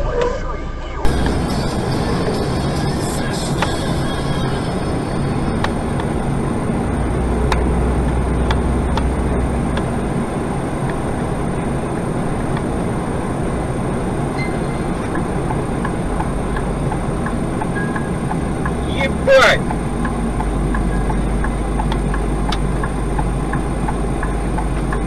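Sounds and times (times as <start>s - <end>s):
road and engine rumble in car: 0.0s - 25.0s.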